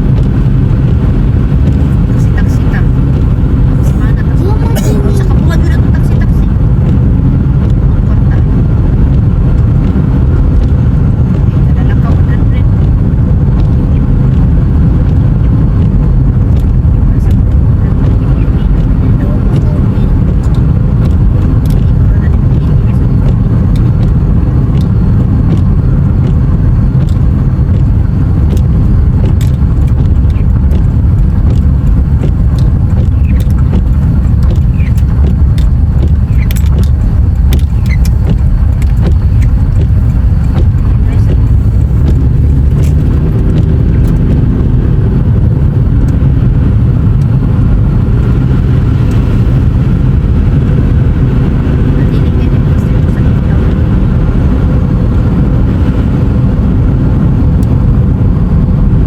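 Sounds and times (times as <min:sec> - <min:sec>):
road and wind rumble: 0:00.0 - 0:59.0.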